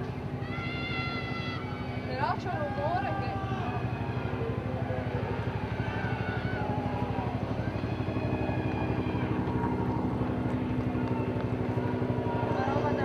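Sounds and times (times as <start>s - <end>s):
engine drone pulsing: 0.0s - 13.0s
murmur of crowd voices: 0.0s - 13.0s.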